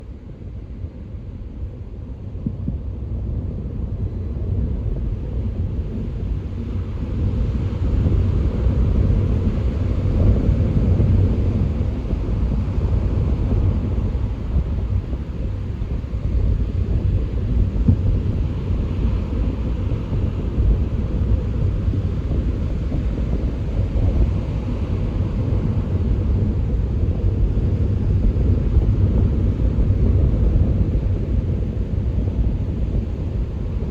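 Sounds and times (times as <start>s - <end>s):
wind buffeting microphone: 1.6s - 33.9s.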